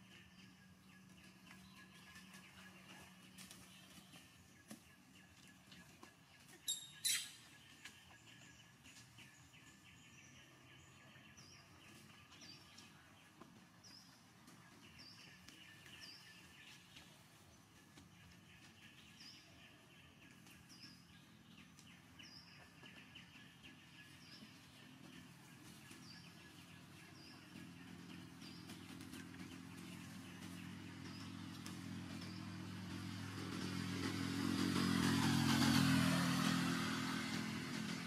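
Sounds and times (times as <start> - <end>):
bird chirping: 0.0 - 37.8.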